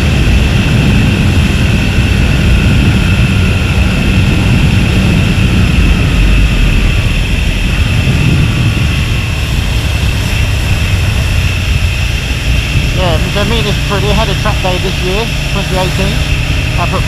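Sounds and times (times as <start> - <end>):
motorcycle engine drone: 0.0 - 17.0
wind rushing over microphone: 0.0 - 17.0.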